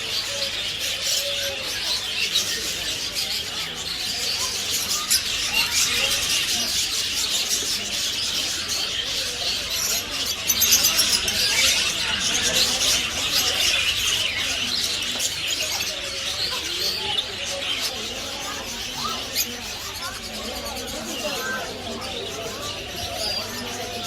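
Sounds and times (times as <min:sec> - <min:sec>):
small birds chirping and twittering: 0:00.0 - 0:24.0.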